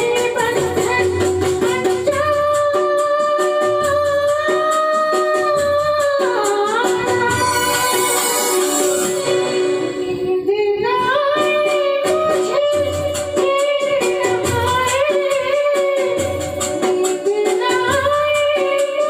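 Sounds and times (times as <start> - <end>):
backing track with steady beat: 0.0 - 19.0.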